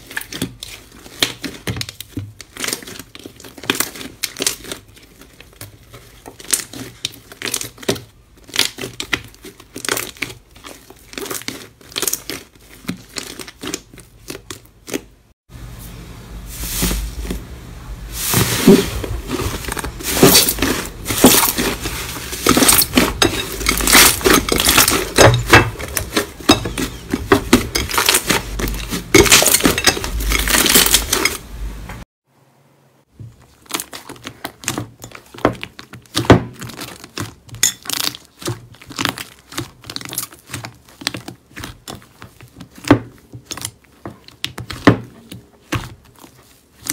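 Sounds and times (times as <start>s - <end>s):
slime crackling and popping: 0.0s - 15.2s, 19.3s - 31.3s, 33.4s - 45.0s.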